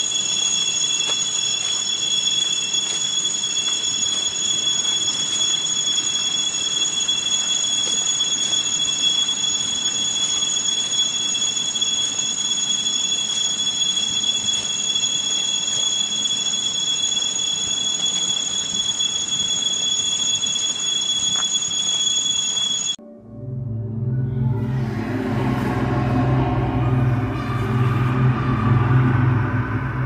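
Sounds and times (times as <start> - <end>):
high-pitched metallic screech: 0.0 - 30.0.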